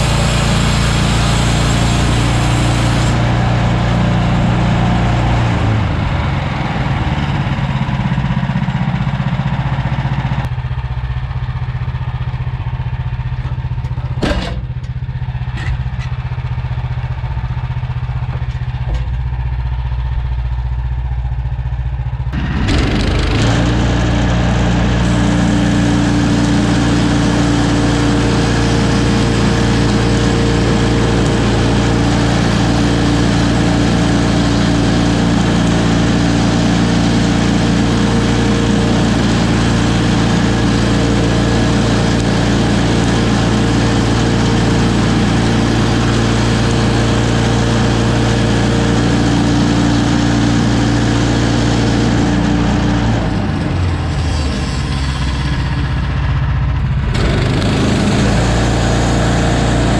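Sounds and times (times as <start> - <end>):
sawmill engine and blade sawing: 0.0 - 59.9.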